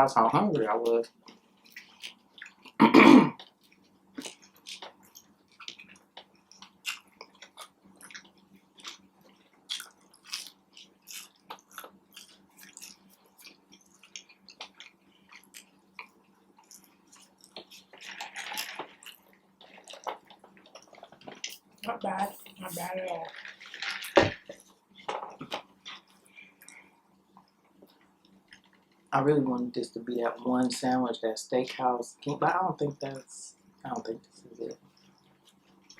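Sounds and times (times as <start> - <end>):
faint steady hum: 0.0 - 35.9
person chewing crunchy food: 1.2 - 29.1, 33.7 - 35.9.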